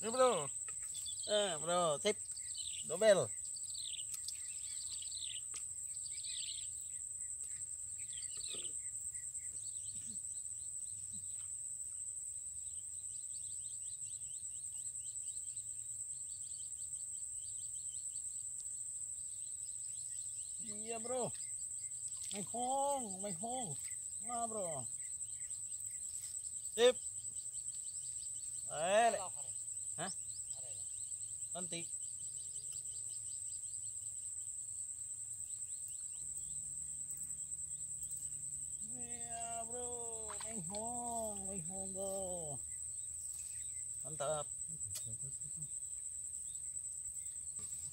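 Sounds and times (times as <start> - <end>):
high-pitched insect drone: 0.0 - 11.5, 12.6 - 47.9
rapid insect chirping: 0.0 - 47.9.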